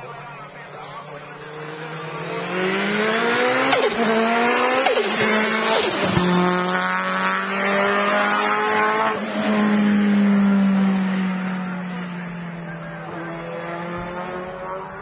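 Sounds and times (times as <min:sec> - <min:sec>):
race car accelerating with upshifts: 0:00.0 - 0:15.0.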